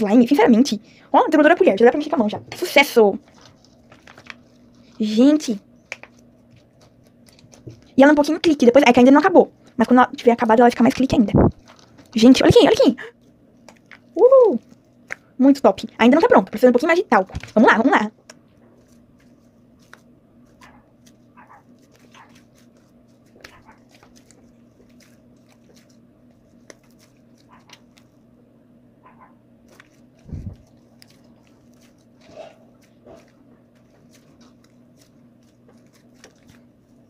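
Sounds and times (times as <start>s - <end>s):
low hum: 0.0s - 37.0s
slime squelching: 2.6s - 28.3s, 29.0s - 37.0s.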